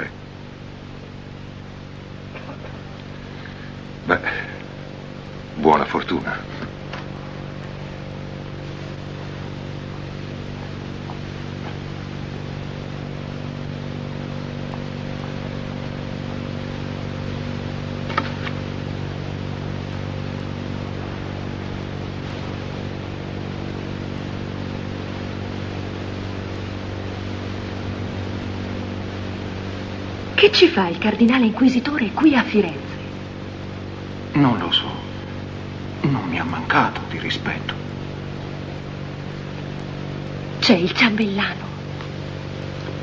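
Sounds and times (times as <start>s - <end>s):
low drone of held tones: 0.0s - 43.0s.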